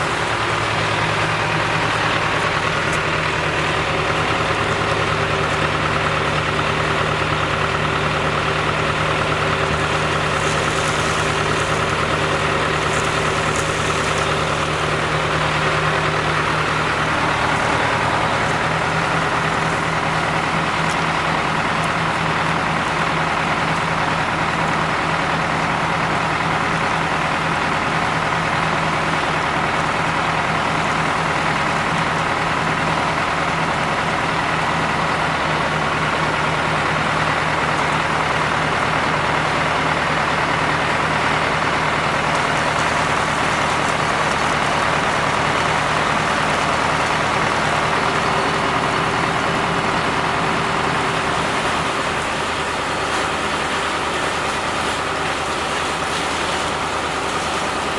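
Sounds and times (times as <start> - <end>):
vacuum truck mechanical drone: 0.0 - 57.9.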